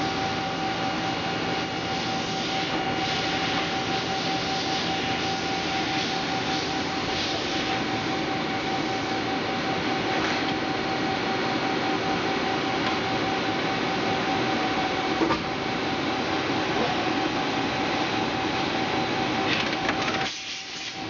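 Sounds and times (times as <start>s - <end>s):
lathe running with whine: 0.0s - 20.2s.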